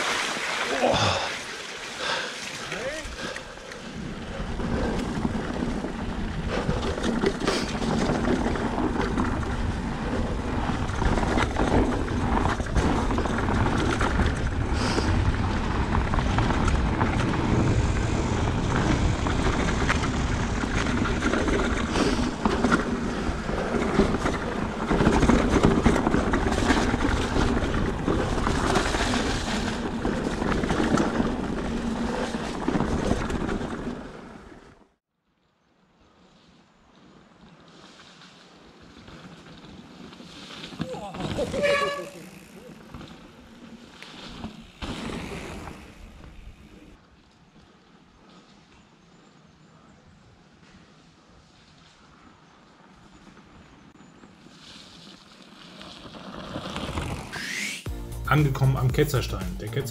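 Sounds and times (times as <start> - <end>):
bike rushing noise: 0.0 - 34.8, 37.0 - 49.7, 50.6 - 59.9.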